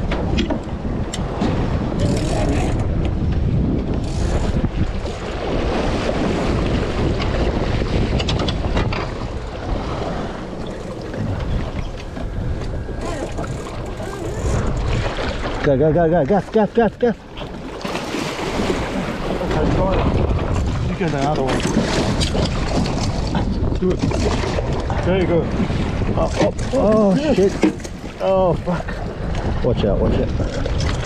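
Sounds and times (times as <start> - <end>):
water slapping against boat hull: 0.0 - 16.6, 17.2 - 31.0
wind buffeting microphone: 0.0 - 31.0.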